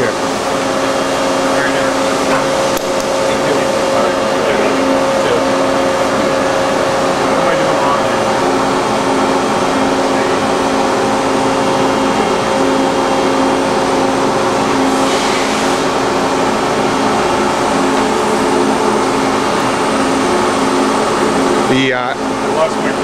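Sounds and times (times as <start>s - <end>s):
machining center humming: 0.0s - 23.0s.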